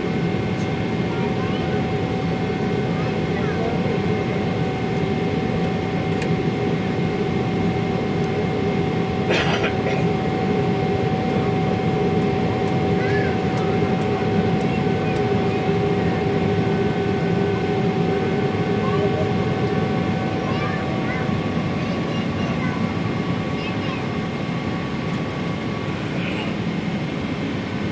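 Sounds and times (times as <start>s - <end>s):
jet engine and airflow drone: 0.0s - 27.9s.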